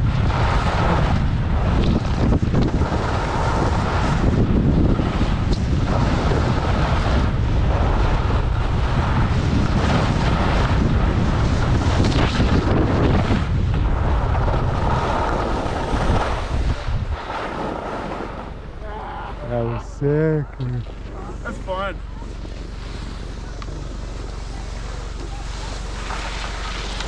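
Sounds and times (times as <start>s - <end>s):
wind buffeting microphone: 0.0s - 27.0s
skis sliding on packed snow: 0.2s - 18.5s, 21.3s - 27.0s.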